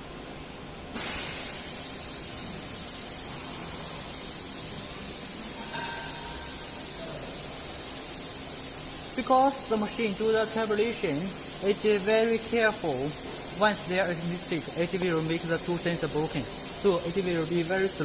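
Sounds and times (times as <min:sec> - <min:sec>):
compressed air hissing: 0:00.9 - 0:18.0.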